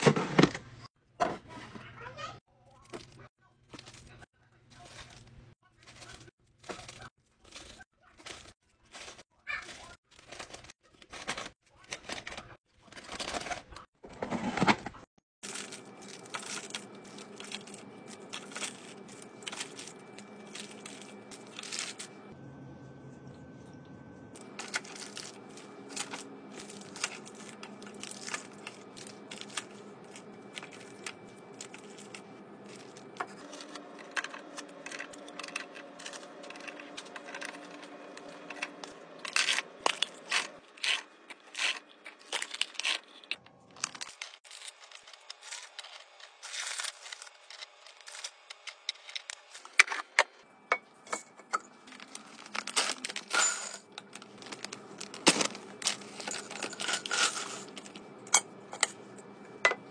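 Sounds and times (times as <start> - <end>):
plastic wrappers crinkling: 2.7 - 13.9, 15.4 - 22.3, 24.4 - 50.2, 51.0 - 59.3
packets clattering into plastic bins: 5.8 - 22.1, 24.4 - 50.4, 51.1 - 59.0.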